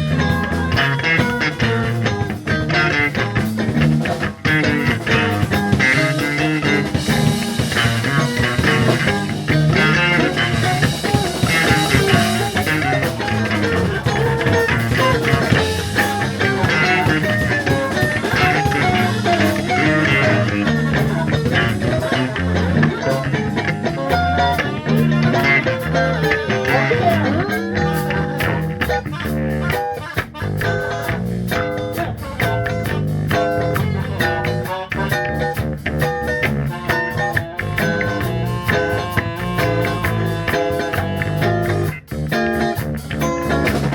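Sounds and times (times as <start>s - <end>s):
instrumental reggae band: 0.0s - 43.9s.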